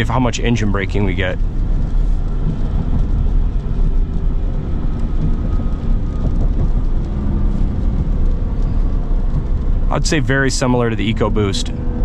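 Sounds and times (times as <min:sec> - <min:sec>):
car cabin engine drone: 0:00.0 - 0:12.0
tyres on wet road: 0:00.0 - 0:12.0.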